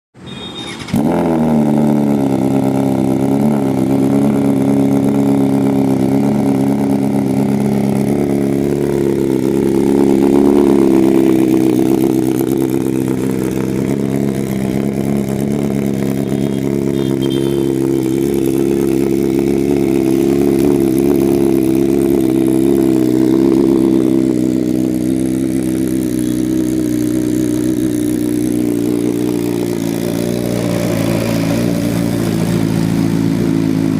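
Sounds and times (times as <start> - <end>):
motorcycle engine starting and idling: 0.2 - 33.9.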